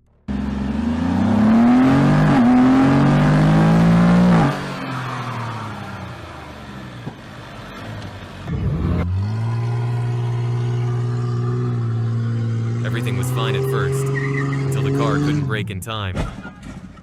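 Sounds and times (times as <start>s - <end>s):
car engine revving: 0.3s - 6.4s, 7.7s - 15.7s.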